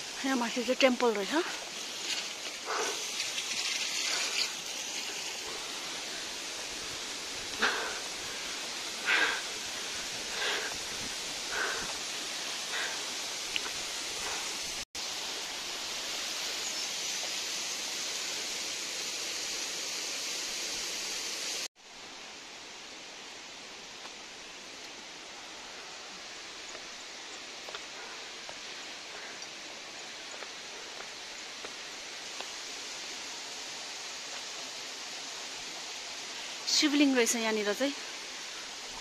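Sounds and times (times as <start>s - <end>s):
flowing water rushing: 0.0s - 39.0s.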